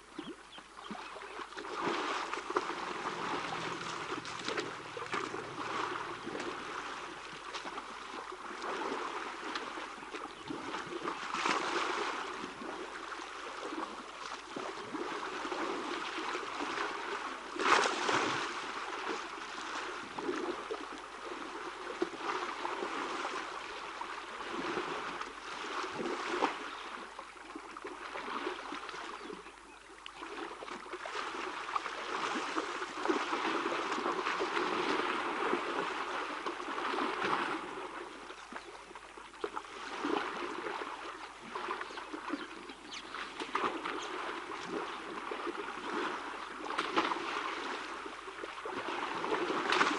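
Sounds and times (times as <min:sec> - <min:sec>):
water splashing and sloshing: 0:00.0 - 0:49.9.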